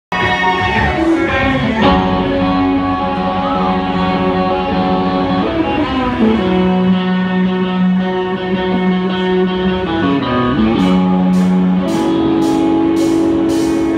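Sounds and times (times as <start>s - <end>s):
electric guitars ringing notes: 0.1s - 13.9s.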